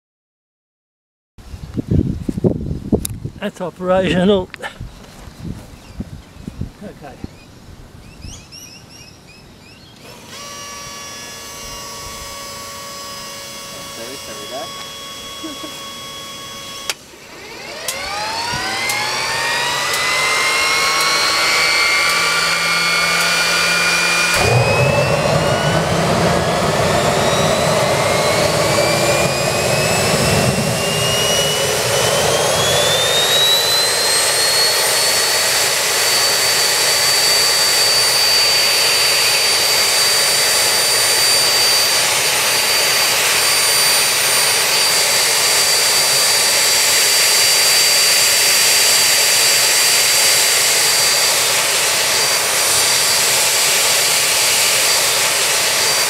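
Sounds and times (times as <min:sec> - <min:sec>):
jet engine turbine whine: 0:06.9 - 0:56.0
jet engine combustion rush: 0:10.0 - 0:56.0.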